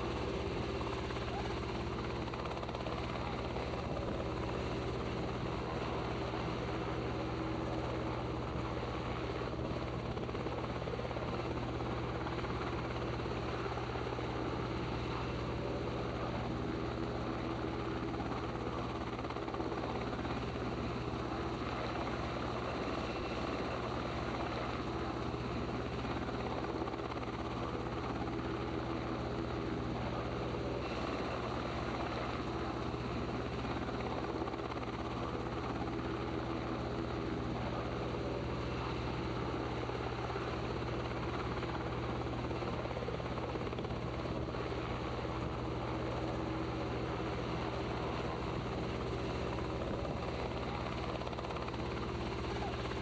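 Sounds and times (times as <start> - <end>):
helicopter rotor and engine drone: 0.0 - 53.0.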